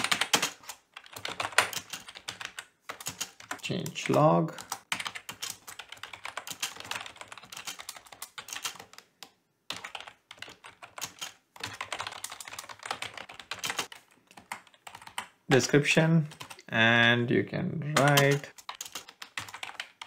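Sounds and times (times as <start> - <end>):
keyboard typing: 0.0 - 16.7, 17.9 - 20.0.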